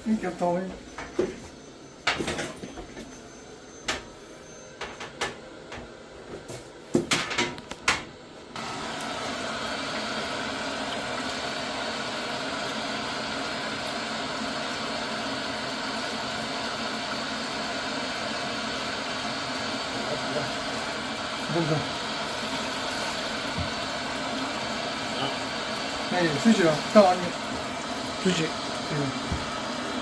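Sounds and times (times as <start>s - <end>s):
boiler running with steady hum: 0.0s - 30.0s.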